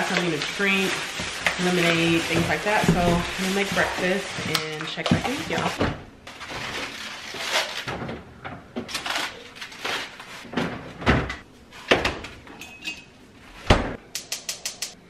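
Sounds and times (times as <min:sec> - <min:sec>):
food clattering and rustling: 0:00.0 - 0:13.6.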